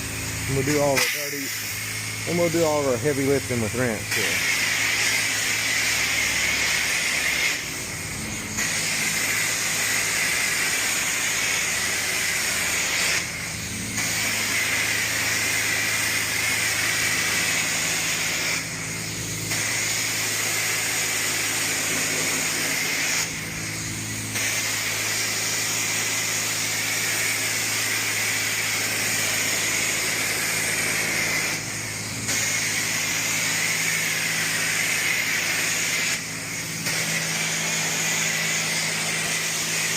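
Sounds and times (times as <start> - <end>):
pressure washer water spraying: 0.0 - 39.9.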